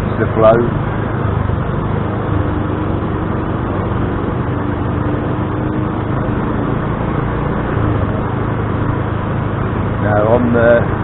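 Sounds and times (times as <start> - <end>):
motor scooter running: 0.0 - 11.0
road and traffic noise: 0.0 - 11.0.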